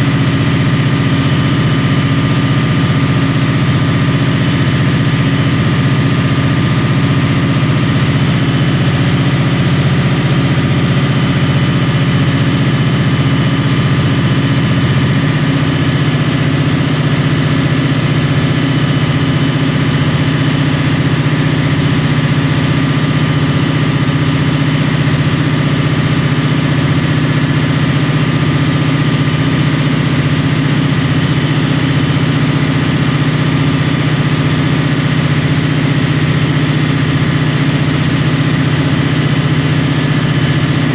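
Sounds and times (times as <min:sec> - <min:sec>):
diesel locomotive engine running: 0:00.0 - 0:40.9.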